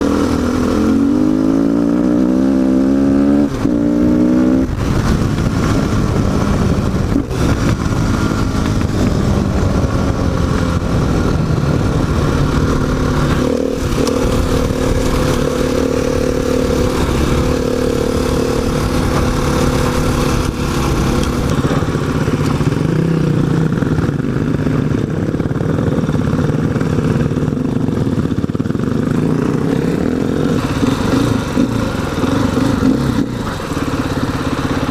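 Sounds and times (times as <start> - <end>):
motorcycle engine accelerating: 0.0 - 34.9
rushing noise: 4.5 - 34.1.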